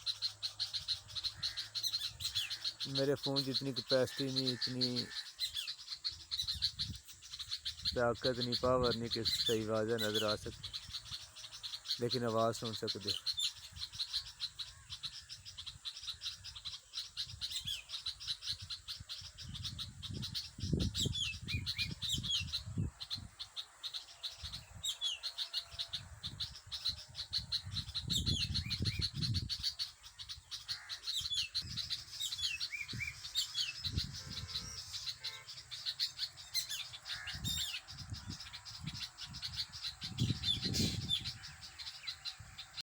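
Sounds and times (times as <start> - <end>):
birds chirping: 0.0 - 42.8.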